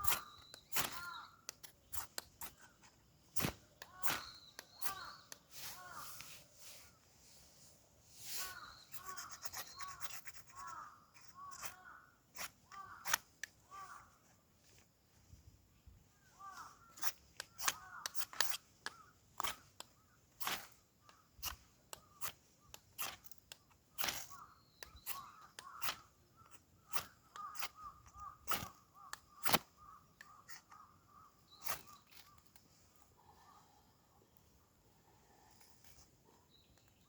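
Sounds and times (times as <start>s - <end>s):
sharp cracks and scrapes: 0.0s - 6.9s, 8.3s - 14.9s, 16.4s - 33.1s.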